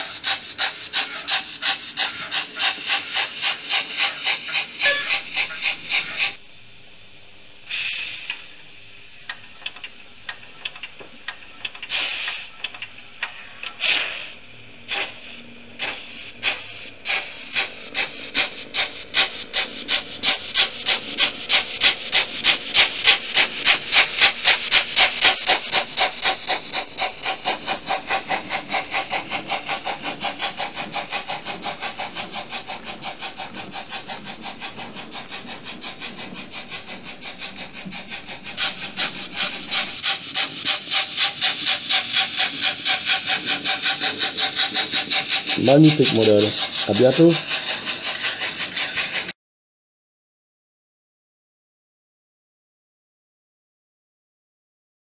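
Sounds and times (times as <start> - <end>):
hissing bursts: 0.0 - 6.4, 7.7 - 8.4, 11.7 - 49.3
model locomotive steam chuffs: 0.0 - 6.4, 7.6 - 49.4.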